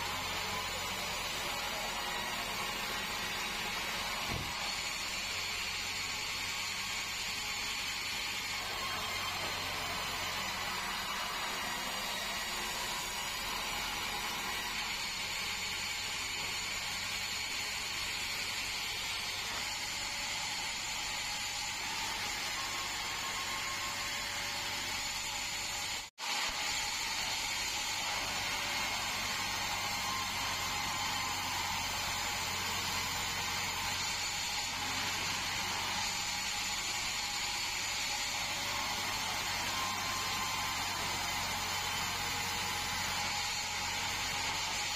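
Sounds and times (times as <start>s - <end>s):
band sawmill running: 0.0s - 44.9s.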